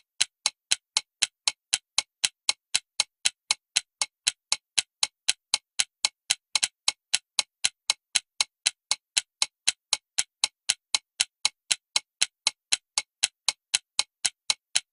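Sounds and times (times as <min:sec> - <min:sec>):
alarm clock ticking: 0:00.0 - 0:14.9.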